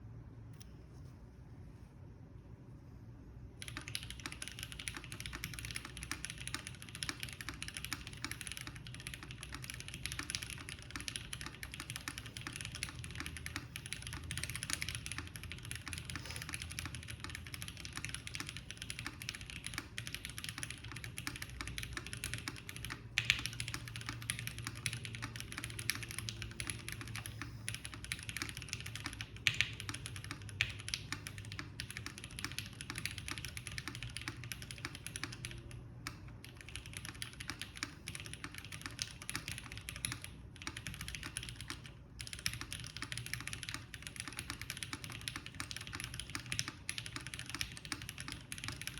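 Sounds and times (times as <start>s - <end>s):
mechanical keyboard typing: 3.6s - 48.9s.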